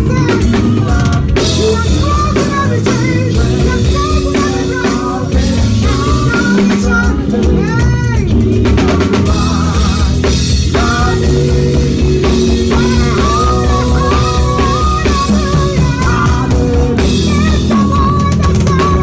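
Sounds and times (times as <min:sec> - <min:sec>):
drum kit with cymbals: 0:00.0 - 0:19.0
held bass notes: 0:00.0 - 0:19.0
wavering melody line: 0:00.0 - 0:19.0.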